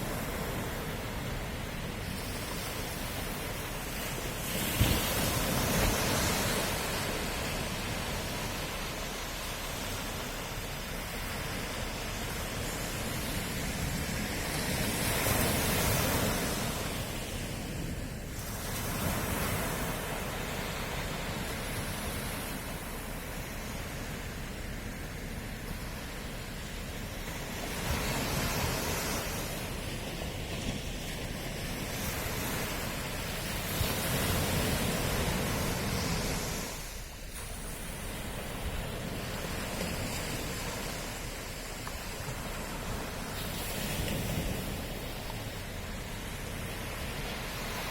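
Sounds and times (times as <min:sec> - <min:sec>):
sea waves breaking on shore: 0:00.0 - 0:47.9.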